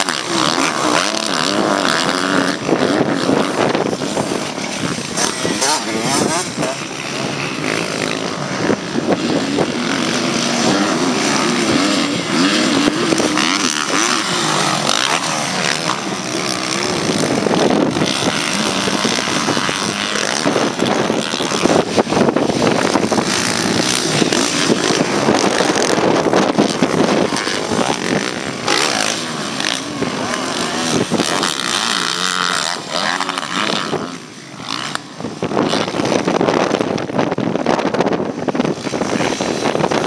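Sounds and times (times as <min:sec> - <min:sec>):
motocross bike engines revving: 0:00.0 - 0:40.0.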